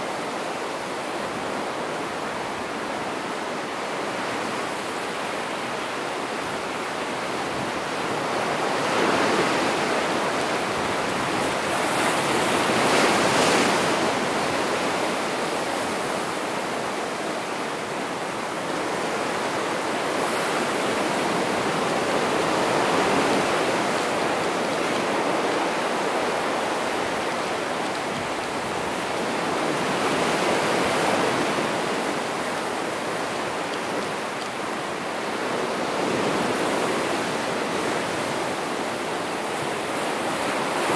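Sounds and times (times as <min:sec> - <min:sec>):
surf washing over rocky shore: 0:00.1 - 0:40.9.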